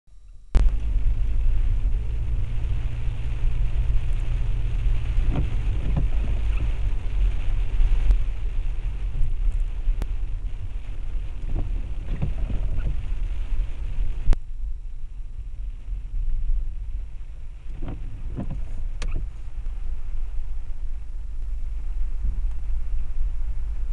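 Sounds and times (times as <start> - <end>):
car engine and road rumble: 0.1 - 23.9
tyre hiss on wet road: 0.6 - 23.9.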